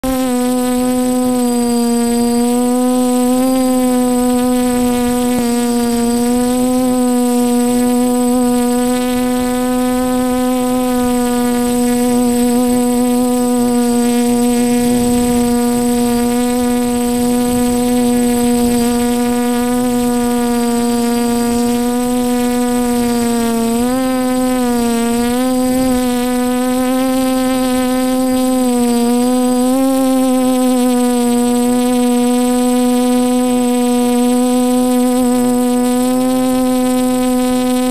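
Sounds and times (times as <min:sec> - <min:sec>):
drone motors humming: 0:00.0 - 0:37.9
high electric whine: 0:00.0 - 0:37.9.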